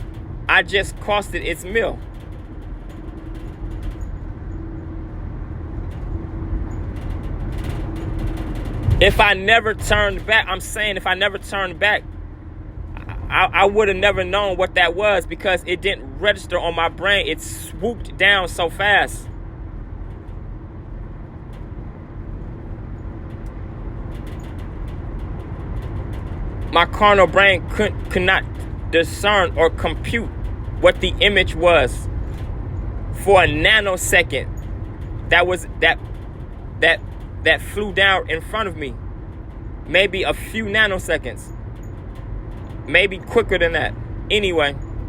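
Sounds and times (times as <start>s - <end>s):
car driving rumble from inside: 0.0s - 45.0s.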